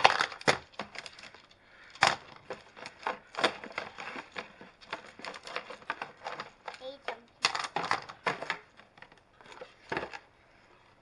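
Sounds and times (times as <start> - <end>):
plastic tiles clacking together: 0.0 - 10.2.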